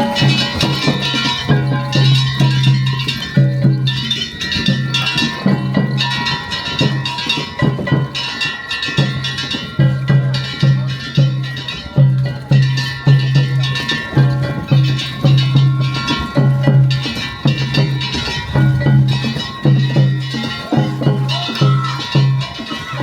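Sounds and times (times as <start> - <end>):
drum beaten in steady rhythm: 0.0 - 23.0
struck metal bells: 0.0 - 23.0.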